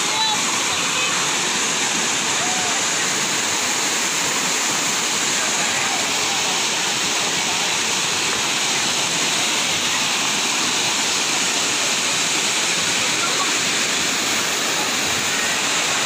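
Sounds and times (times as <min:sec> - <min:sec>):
waterfall pouring over rocks: 0:00.0 - 0:16.0.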